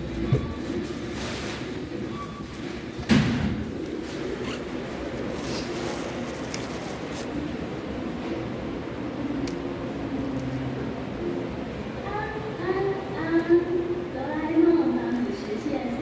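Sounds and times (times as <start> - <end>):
indoor room background noise: 0.0 - 16.0.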